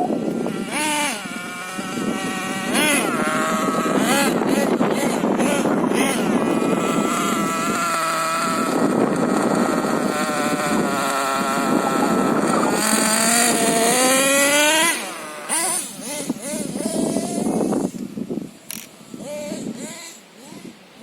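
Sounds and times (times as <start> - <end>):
rc truck engine revving: 0.0 - 21.0.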